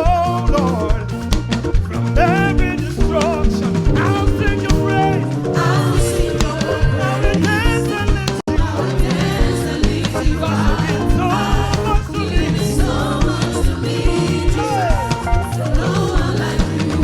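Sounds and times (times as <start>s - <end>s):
upbeat praise band music: 0.0s - 17.0s.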